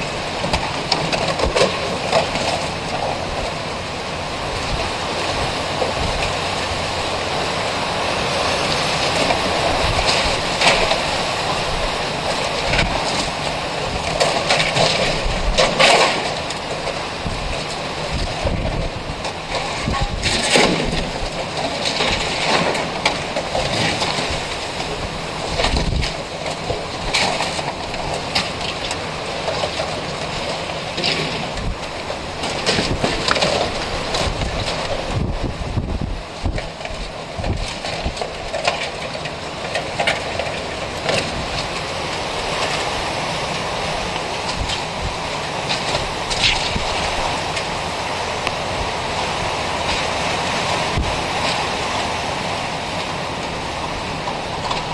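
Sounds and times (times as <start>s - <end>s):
storm wind on microphone: 0.0s - 39.1s, 39.7s - 54.9s.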